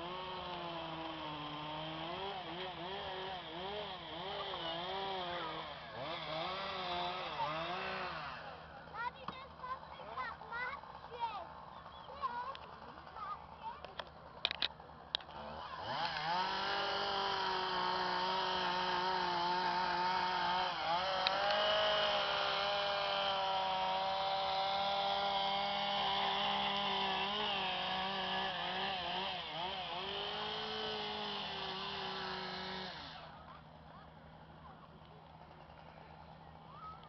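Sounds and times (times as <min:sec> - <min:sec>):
chainsaw running at high revs: 0:00.0 - 0:37.0.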